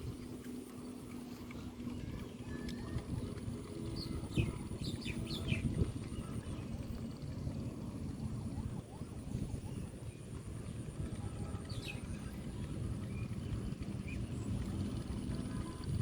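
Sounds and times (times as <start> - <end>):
outdoor rumbling noise: 0.0 - 16.0.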